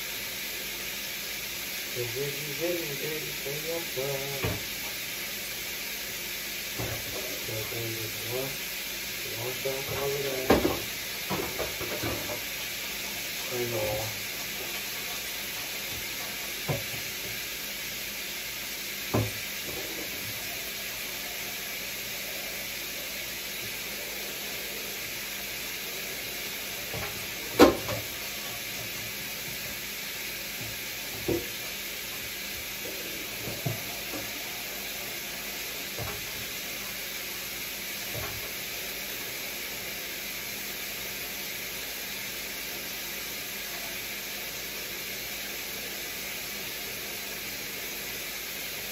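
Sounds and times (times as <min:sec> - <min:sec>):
chicken sizzling in a skillet: 0:00.0 - 0:48.9.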